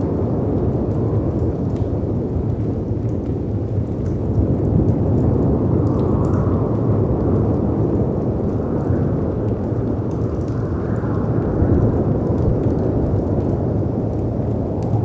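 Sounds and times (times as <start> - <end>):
wind: 0.0 - 15.0
fireplace crackles: 0.6 - 15.0.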